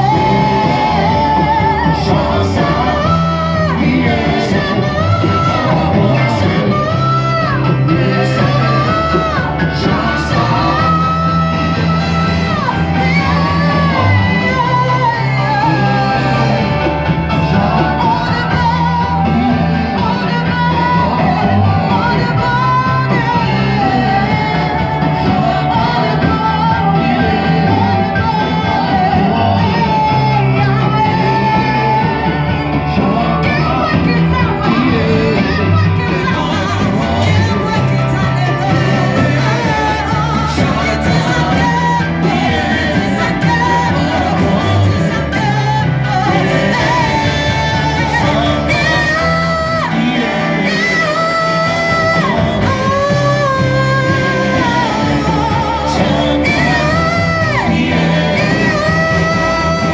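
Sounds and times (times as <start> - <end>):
band with steady bass line: 0.0 - 59.9
voices singing worship music: 0.0 - 59.9.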